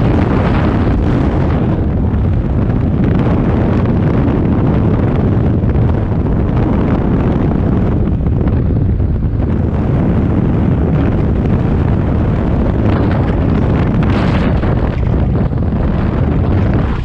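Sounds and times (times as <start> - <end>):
airplane engine noise: 0.0 - 17.0
wind buffeting microphone: 0.0 - 17.0
wind rushing: 0.0 - 17.0.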